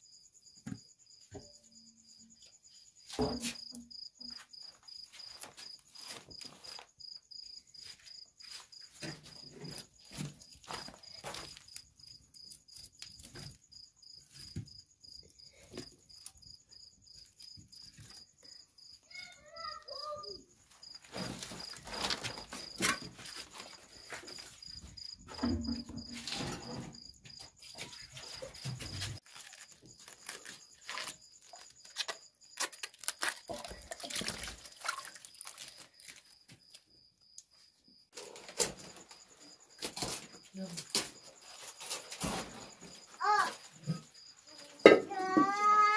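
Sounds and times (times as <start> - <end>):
cricket chirping: 0.0 - 45.9.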